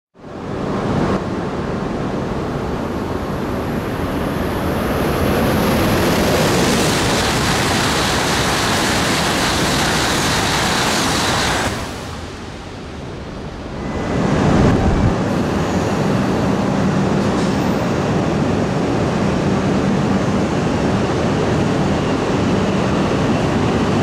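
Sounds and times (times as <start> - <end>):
high-speed train passing: 0.2 - 24.0.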